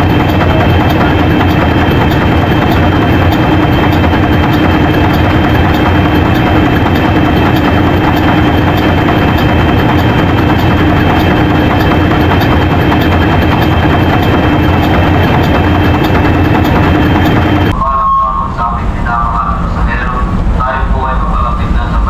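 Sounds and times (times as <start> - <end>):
marine diesel engine drone: 0.0 - 22.0.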